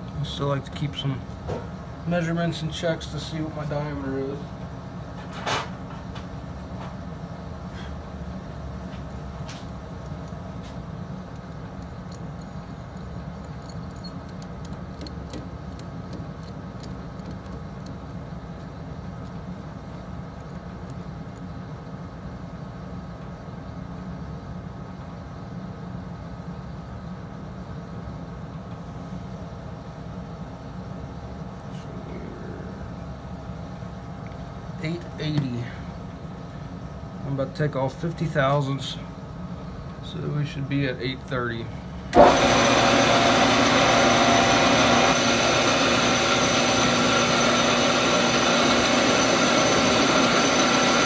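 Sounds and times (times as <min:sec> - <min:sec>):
air conditioner humming: 0:00.0 - 0:51.0.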